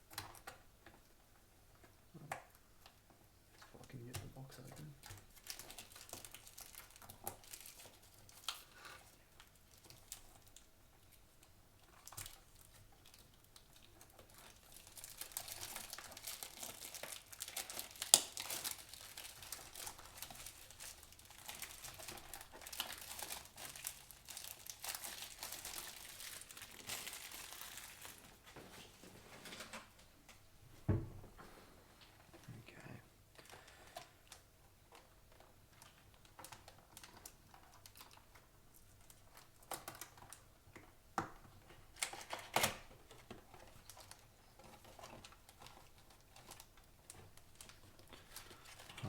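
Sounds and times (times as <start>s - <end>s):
packaging crinkling and tearing: 1.8s - 30.1s, 33.3s - 49.0s.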